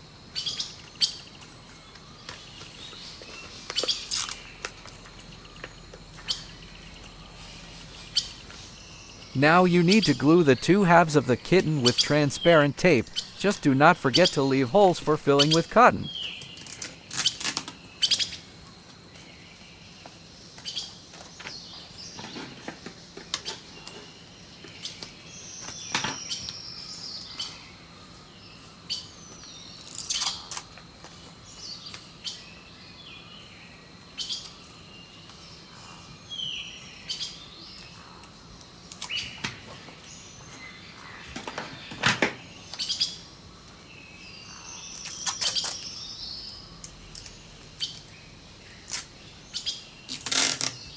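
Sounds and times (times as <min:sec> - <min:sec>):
small birds chirping: 0:00.2 - 0:18.6, 0:19.2 - 0:50.9.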